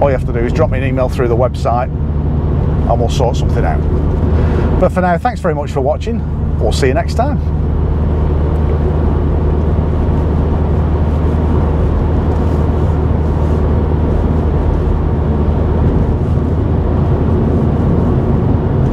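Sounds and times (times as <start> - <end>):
car engine drone from inside: 0.0 - 18.9
tyre and road noise: 0.0 - 18.9.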